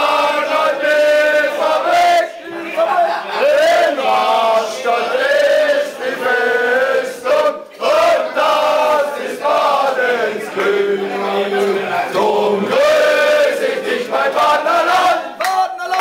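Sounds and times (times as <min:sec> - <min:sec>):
men chanting and singing: 0:00.0 - 0:16.0.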